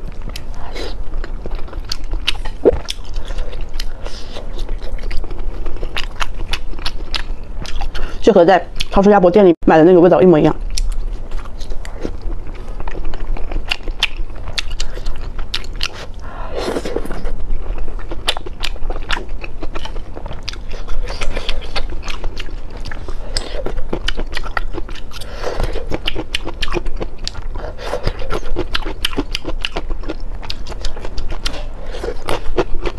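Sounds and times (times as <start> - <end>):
wet chewing and smacking: 0.0 - 9.0, 10.6 - 32.9.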